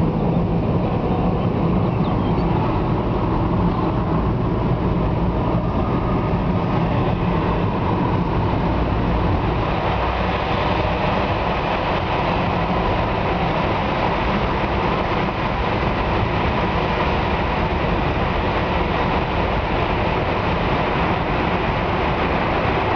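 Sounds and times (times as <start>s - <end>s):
car engine and tyre noise: 0.0s - 22.9s.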